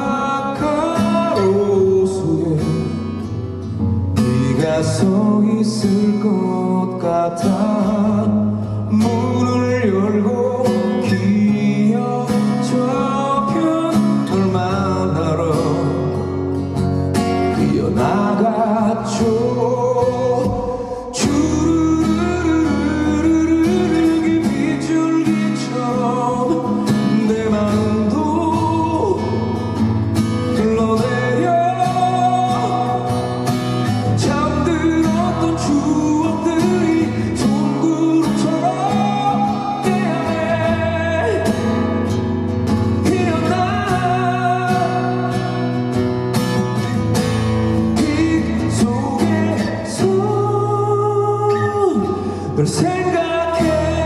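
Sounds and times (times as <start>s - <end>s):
man singing: 0.0s - 54.0s
strummed acoustic guitar: 0.0s - 54.0s.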